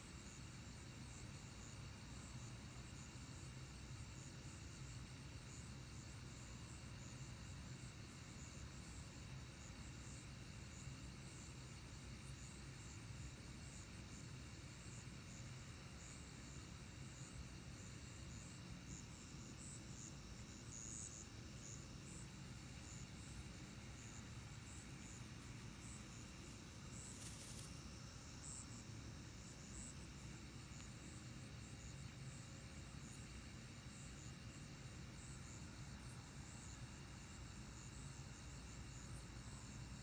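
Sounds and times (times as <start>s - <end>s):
crickets chirping and trilling: 0.0s - 40.0s.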